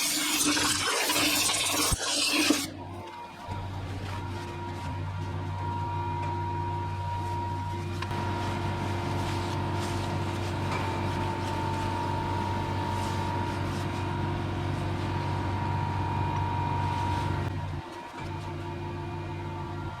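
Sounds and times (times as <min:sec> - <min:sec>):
machine tool whining: 0:00.0 - 0:20.0.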